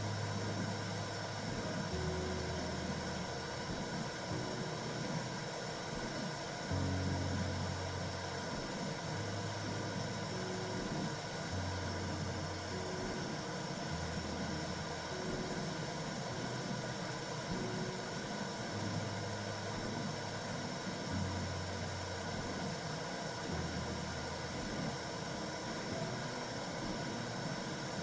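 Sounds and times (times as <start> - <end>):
soft low held tones: 0.0 - 28.0
steady whooshing noise: 0.0 - 28.0.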